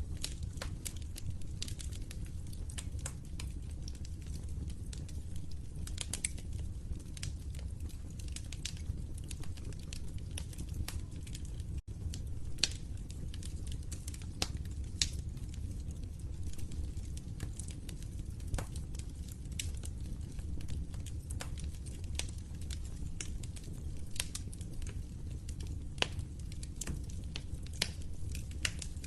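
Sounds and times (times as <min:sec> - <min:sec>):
low rumble of flames: 0:00.0 - 0:29.0
wood fire crackling: 0:00.0 - 0:29.0.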